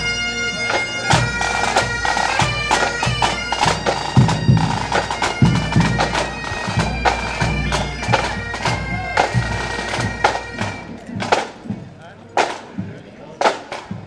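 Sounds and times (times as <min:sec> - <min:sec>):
bagpipes with drones: 0:00.0 - 0:11.6
drum strokes: 0:01.1 - 0:14.0.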